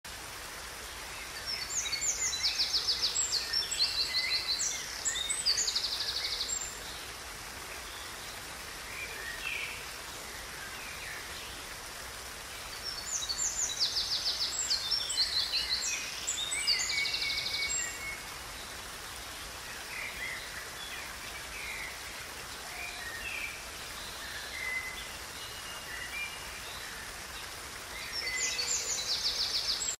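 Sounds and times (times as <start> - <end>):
water flowing over rocks: 0.0 - 30.0.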